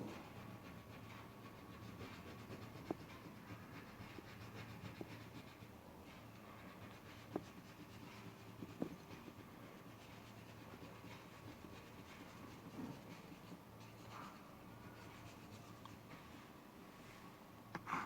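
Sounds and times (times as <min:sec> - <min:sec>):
crayon scratching on paper: 0:00.1 - 0:16.1.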